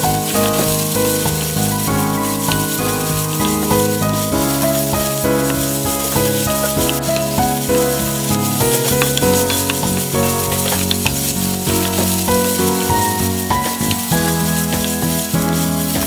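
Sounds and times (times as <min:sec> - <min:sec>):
background music: 0:00.0 - 0:16.0
food sizzling in a frying pan: 0:00.0 - 0:16.0.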